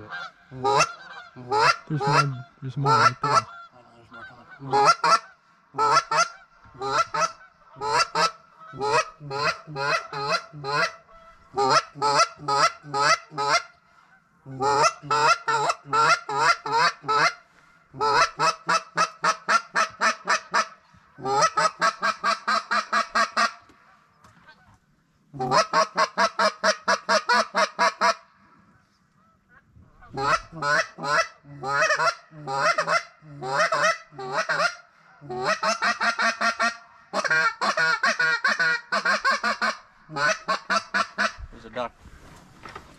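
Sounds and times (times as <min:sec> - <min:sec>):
duck call honking: 0:00.1 - 0:13.7, 0:14.6 - 0:17.4, 0:18.0 - 0:23.6, 0:25.4 - 0:28.2, 0:30.1 - 0:41.4.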